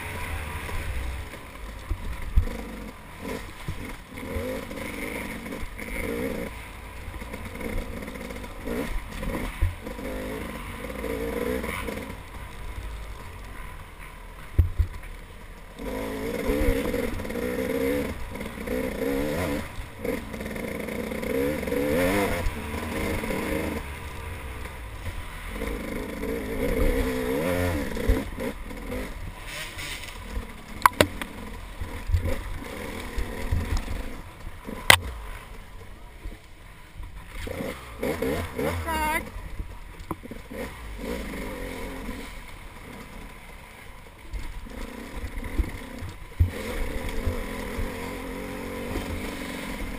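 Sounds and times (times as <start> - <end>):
dirt bike engine revving: 0.0 - 14.6, 15.7 - 35.7, 37.1 - 49.9.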